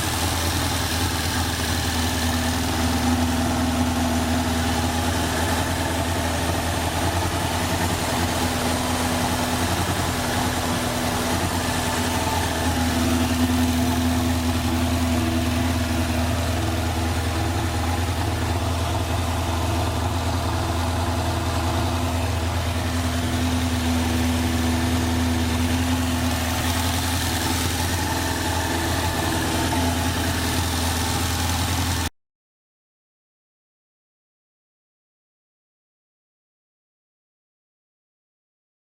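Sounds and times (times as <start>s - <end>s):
motorcycle engine idling: 0.0s - 32.1s.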